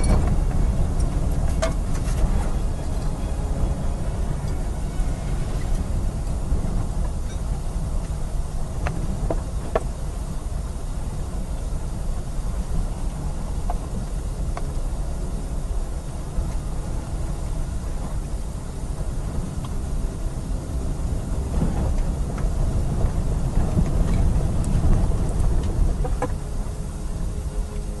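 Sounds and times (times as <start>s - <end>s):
deep storm rumble: 0.0s - 28.0s.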